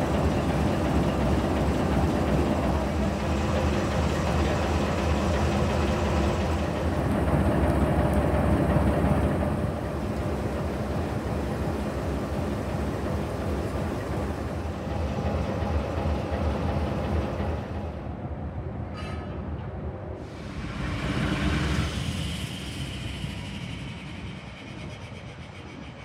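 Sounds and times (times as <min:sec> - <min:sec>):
diesel locomotive engine idling: 0:00.0 - 0:18.3, 0:20.2 - 0:26.0.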